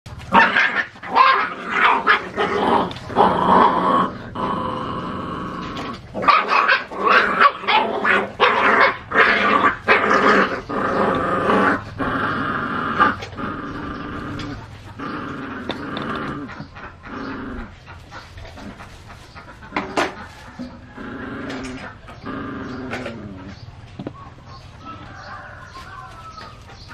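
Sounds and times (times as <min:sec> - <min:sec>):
puppies growling: 0:00.1 - 0:26.9.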